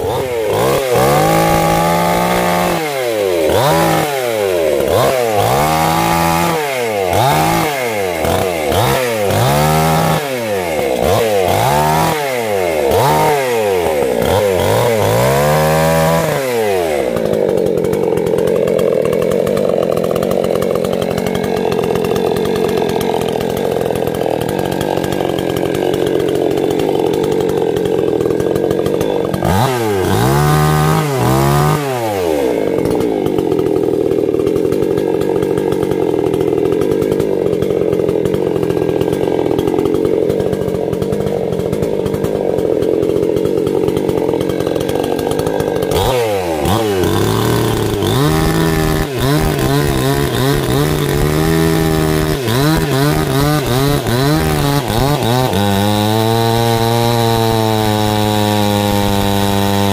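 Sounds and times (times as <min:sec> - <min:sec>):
chainsaw revving and cutting: 0:00.0 - 0:59.9.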